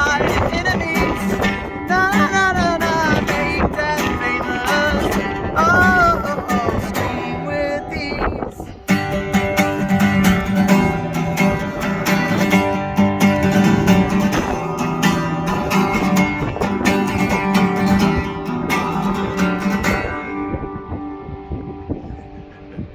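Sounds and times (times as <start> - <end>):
guitar strumming chords: 0.0 - 22.9.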